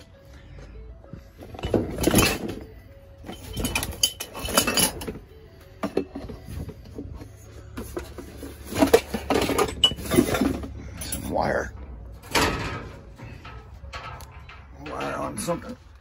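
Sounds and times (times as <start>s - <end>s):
junk clattering in a dumpster: 1.4s - 6.9s, 7.8s - 15.6s.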